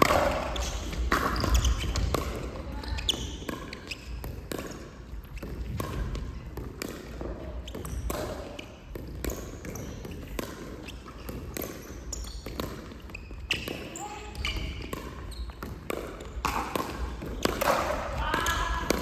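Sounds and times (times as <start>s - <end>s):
ball bouncing on court: 0.0s - 19.0s.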